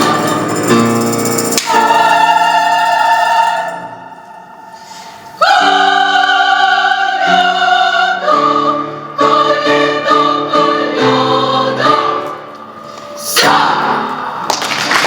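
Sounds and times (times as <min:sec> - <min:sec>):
women's choir singing: 0:00.0 - 0:00.8, 0:01.5 - 0:14.5.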